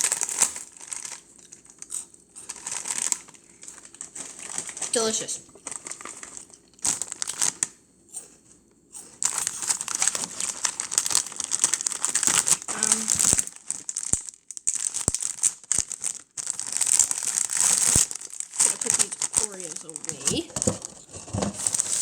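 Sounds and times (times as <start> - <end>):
plastic packaging crinkling: 0.0 - 7.8, 9.2 - 22.0.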